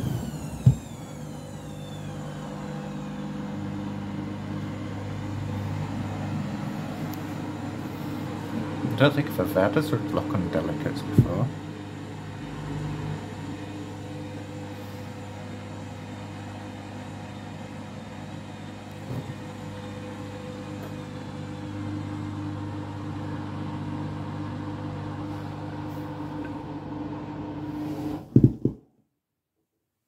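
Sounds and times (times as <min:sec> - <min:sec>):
washing machine motor humming: 0:00.0 - 0:28.6.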